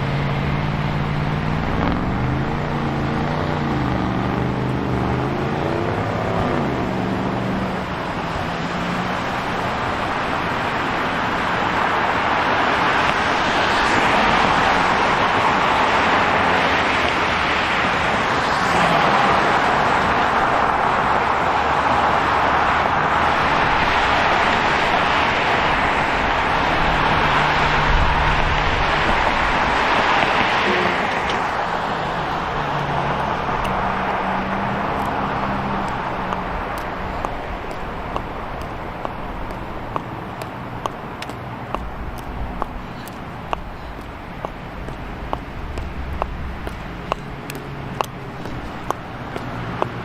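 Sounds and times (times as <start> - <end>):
passing cars: 0.0 - 50.0
vehicle engine changing pitch: 0.0 - 50.0.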